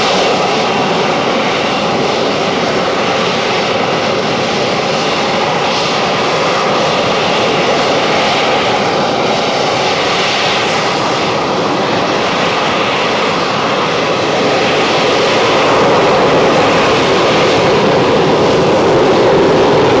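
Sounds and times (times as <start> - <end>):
jet engine running: 0.0 - 20.0.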